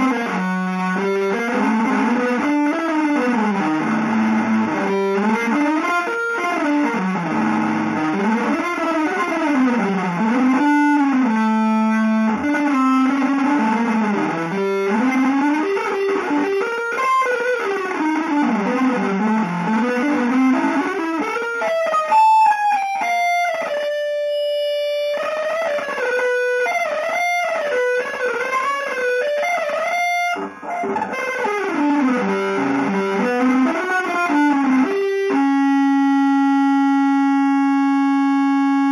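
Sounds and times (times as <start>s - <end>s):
electric guitar melody: 0.0s - 38.9s.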